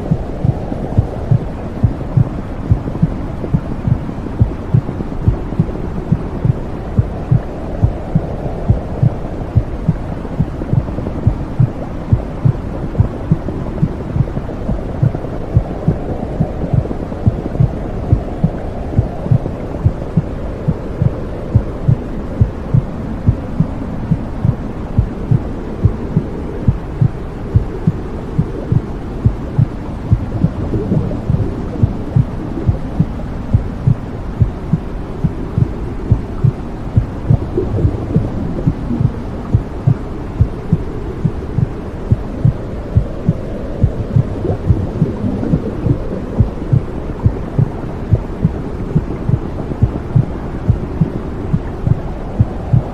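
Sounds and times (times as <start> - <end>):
heartbeat: 0.0 - 52.9
low muffled whooshing: 0.0 - 52.9.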